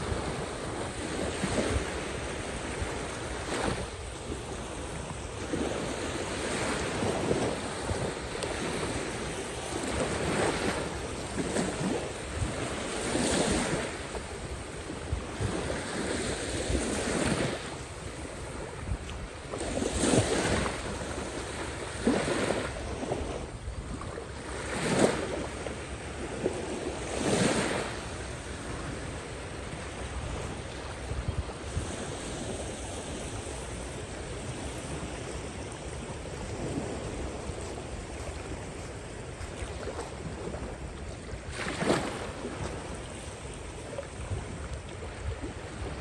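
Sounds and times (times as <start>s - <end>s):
small waves washing onto shore: 0.0s - 46.0s
wind on microphone: 0.0s - 46.0s.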